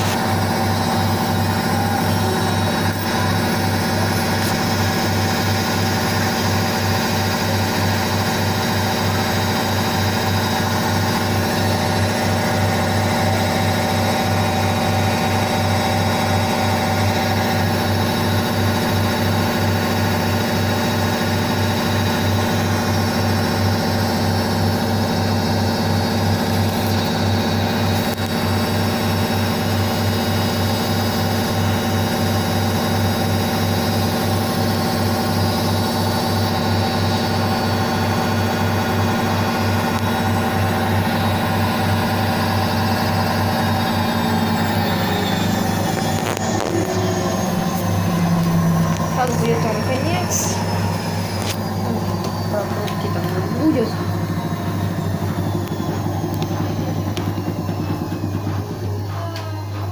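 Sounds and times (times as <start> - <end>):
washing machine motor humming: 0.0 - 59.9.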